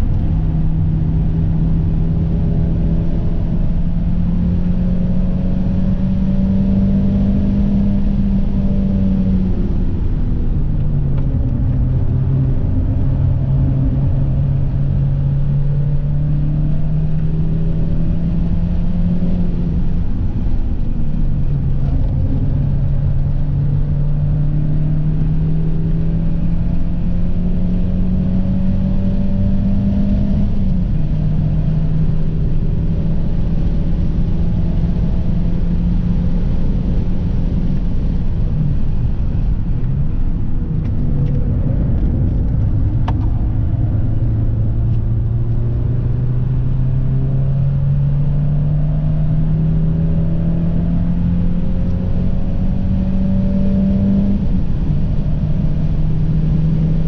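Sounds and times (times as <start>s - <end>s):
car engine revving: 0.0s - 57.0s
road noise: 0.0s - 57.0s.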